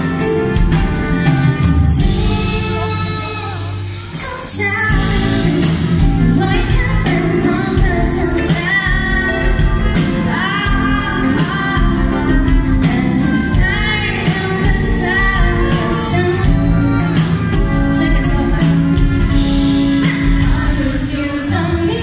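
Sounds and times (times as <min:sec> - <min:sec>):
bass guitar: 0:00.0 - 0:22.0
drums with cymbal strikes: 0:00.0 - 0:22.0
woman singing: 0:01.9 - 0:22.0.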